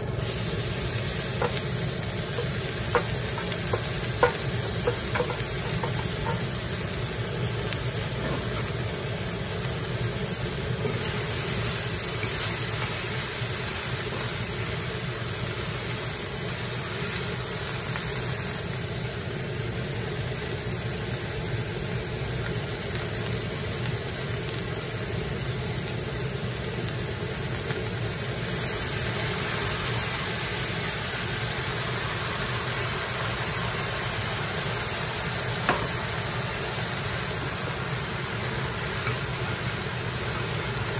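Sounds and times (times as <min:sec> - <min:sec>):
food sizzling in a wok: 0:00.0 - 0:40.9.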